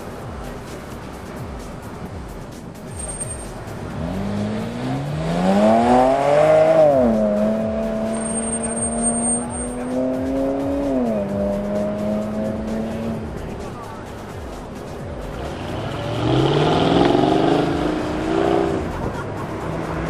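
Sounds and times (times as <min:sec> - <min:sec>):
car engine pulling hard: 0:01.5 - 0:20.0.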